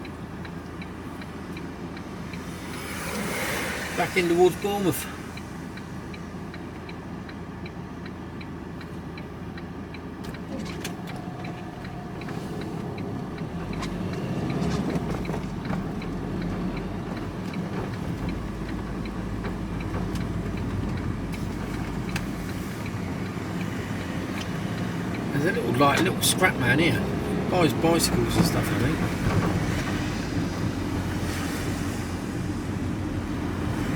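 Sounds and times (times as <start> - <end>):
turn signal ticking: 0.0 - 33.9
vehicle engine and road noise: 0.0 - 33.9.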